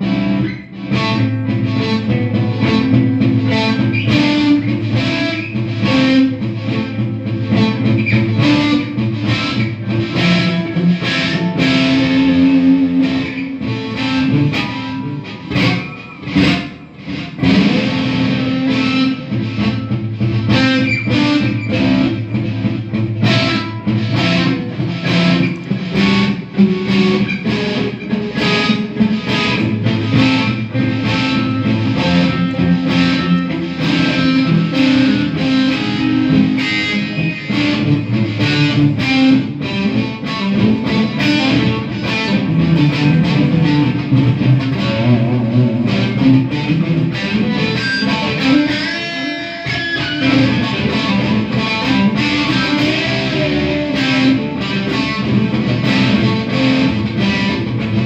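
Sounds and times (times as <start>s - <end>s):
overdriven electric guitar riffs: 0.0s - 58.0s.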